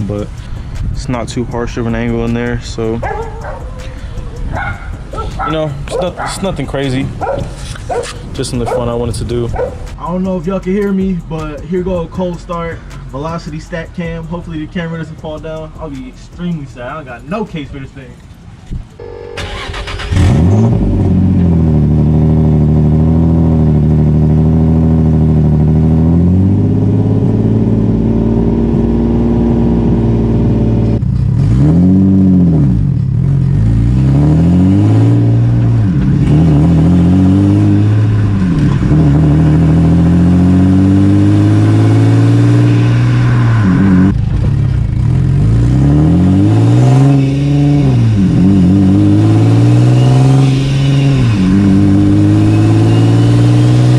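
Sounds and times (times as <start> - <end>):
car engine starting and revving: 0.0 - 11.6, 19.0 - 53.9.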